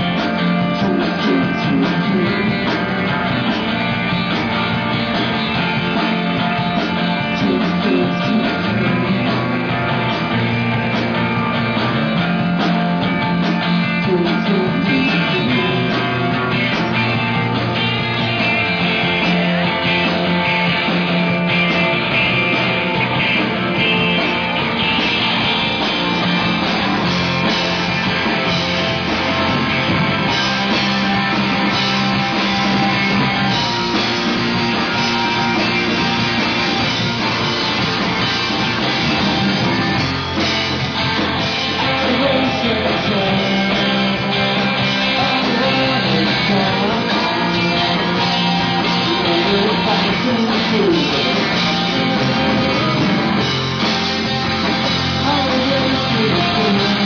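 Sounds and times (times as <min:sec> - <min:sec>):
electric guitar: 0:00.0 - 0:57.0
rock band playing live: 0:00.0 - 0:57.0.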